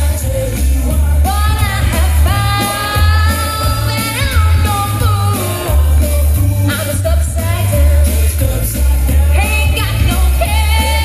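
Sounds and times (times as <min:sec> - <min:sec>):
backing music with pulsing bass: 0:00.0 - 0:11.0
woman singing into a microphone: 0:01.0 - 0:11.0.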